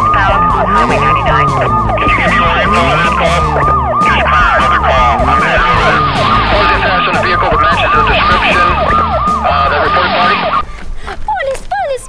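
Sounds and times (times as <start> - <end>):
police siren yelping: 0.0 - 10.6.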